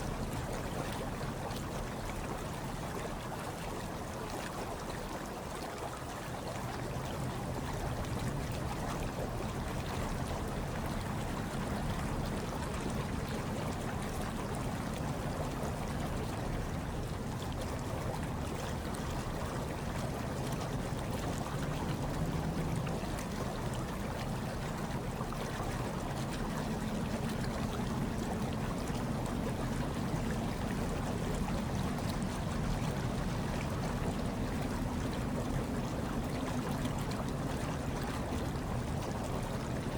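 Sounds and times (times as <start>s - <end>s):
hot tub water bubbling: 0.0s - 39.9s.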